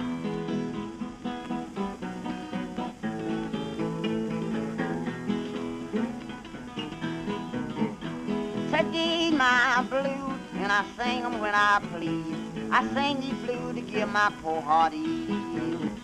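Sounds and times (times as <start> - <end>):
acoustic blues guitar: 0.0 - 16.0.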